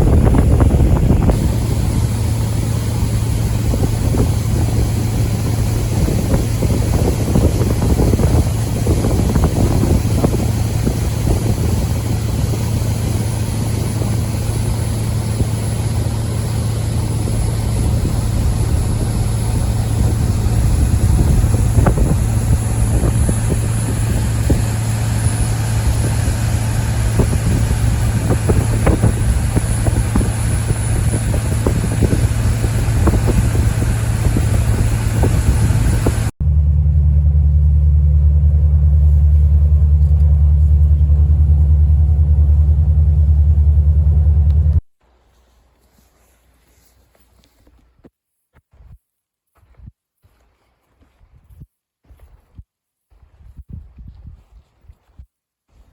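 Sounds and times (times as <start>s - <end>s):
boat engine humming: 0.0s - 47.6s.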